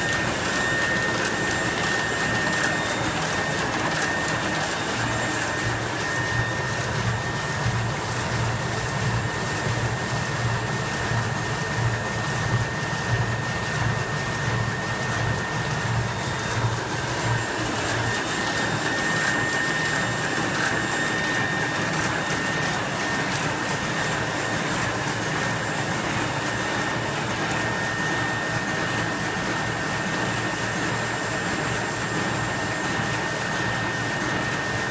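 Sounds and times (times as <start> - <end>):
printing press clattering: 0.0 - 34.9.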